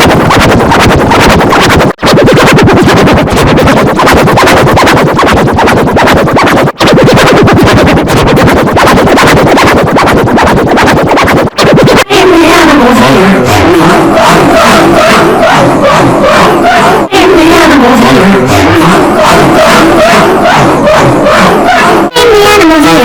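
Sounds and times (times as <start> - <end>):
distorted electronic buzzing pulse: 0.0 - 23.0.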